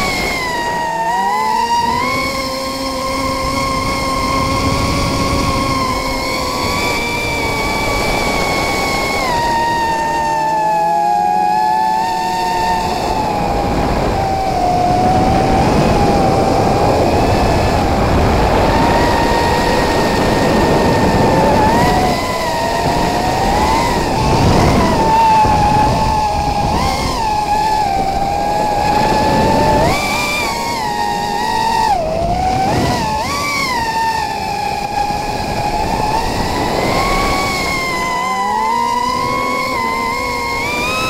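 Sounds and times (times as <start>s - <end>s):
drone motors whining: 0.0s - 41.0s.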